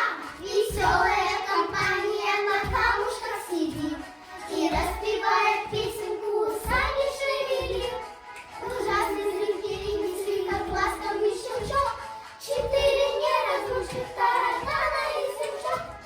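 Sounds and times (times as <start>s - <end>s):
child singing: 0.0s - 16.0s
music with low beat: 0.0s - 16.0s.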